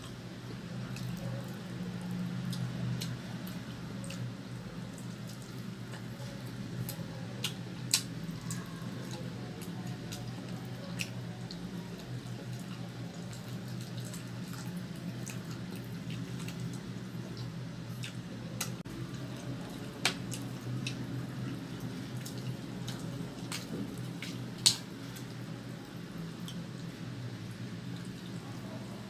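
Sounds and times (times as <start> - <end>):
steady low hum: 0.0 - 29.0
wet chewing: 0.8 - 27.0.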